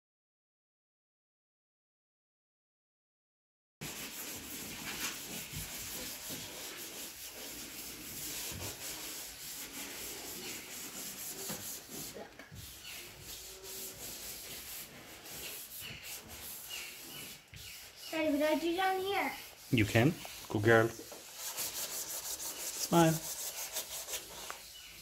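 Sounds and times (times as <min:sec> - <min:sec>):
sandpaper rubbing on paint: 0:03.8 - 0:25.0.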